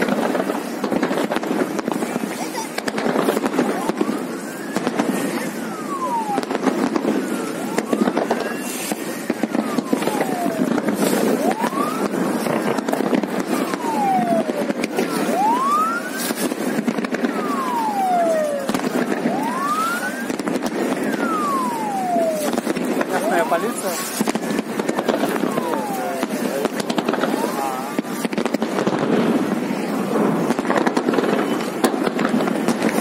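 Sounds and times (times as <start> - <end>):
crackles: 0.0 - 33.0
siren wailing: 0.1 - 28.6.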